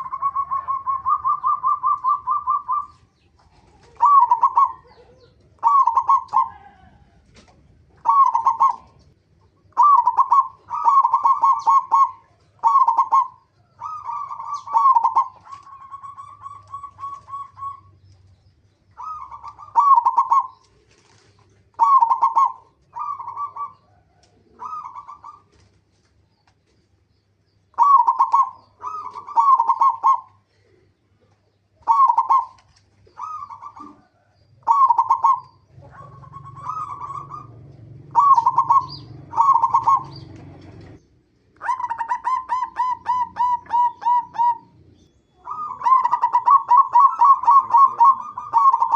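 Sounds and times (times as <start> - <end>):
dove cooing: 0.0 - 18.2, 19.0 - 25.8, 27.7 - 48.9.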